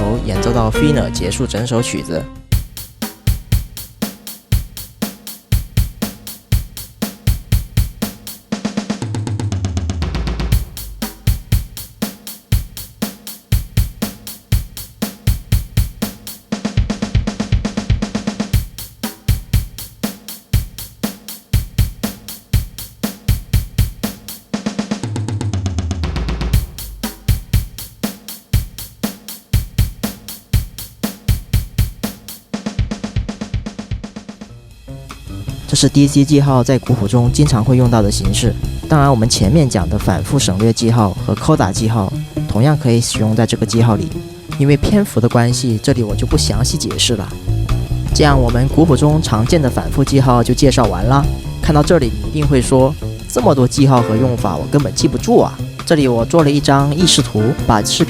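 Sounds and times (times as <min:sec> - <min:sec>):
drum fill: 0:00.0 - 0:58.0
drum kit groove: 0:00.0 - 0:58.0.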